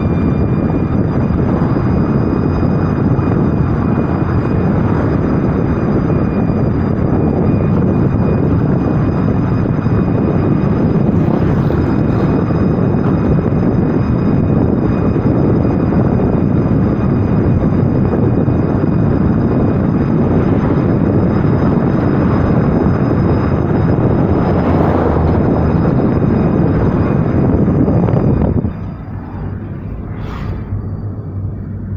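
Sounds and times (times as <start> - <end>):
faint high-pitched tones: 0.0 - 31.9
road and tyre rumble: 0.0 - 31.9.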